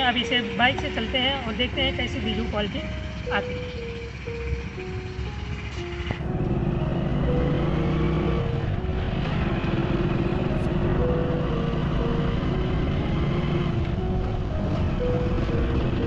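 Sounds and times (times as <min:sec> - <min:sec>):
motorcycle engine: 0:00.0 - 0:16.0
wind and road noise: 0:00.0 - 0:16.0.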